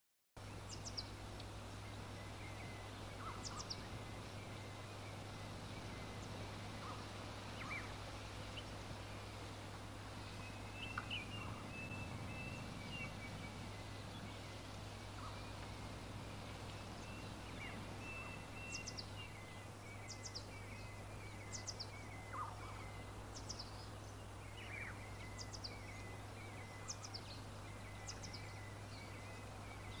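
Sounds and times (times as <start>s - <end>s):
birds chirping and warbling: 0.4s - 30.0s
steady low hum: 0.4s - 30.0s.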